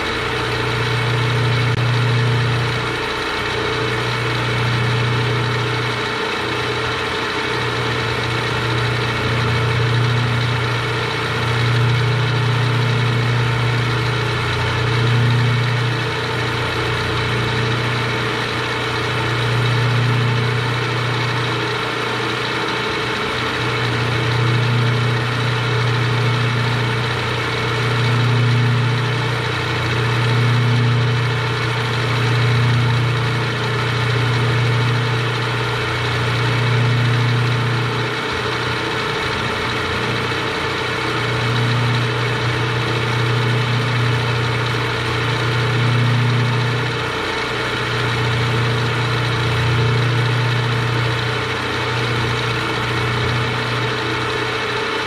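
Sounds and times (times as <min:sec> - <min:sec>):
milling machine cutting metal: 0:00.0 - 0:55.0.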